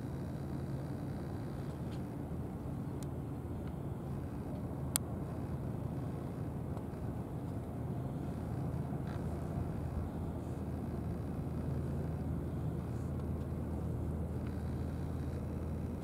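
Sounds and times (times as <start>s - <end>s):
faint hum: 0.0s - 16.0s
low outdoor rumble: 0.0s - 16.0s
faint ticks: 2.9s - 16.0s.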